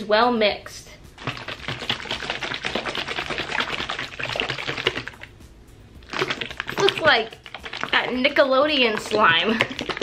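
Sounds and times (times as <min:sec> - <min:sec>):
plastic jar shaken hard: 0:01.2 - 0:05.3, 0:06.0 - 0:10.0
water sloshing in jar: 0:01.2 - 0:05.4, 0:06.0 - 0:10.0.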